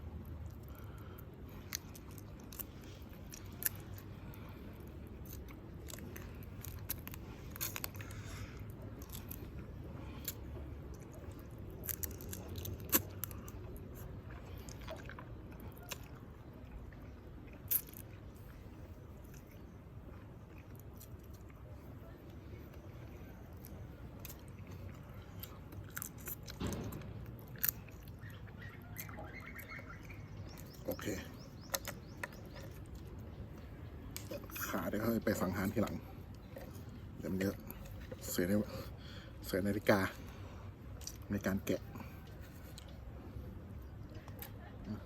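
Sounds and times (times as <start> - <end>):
person chewing shellfish: 0.0 - 44.6
low steady background: 0.0 - 45.0.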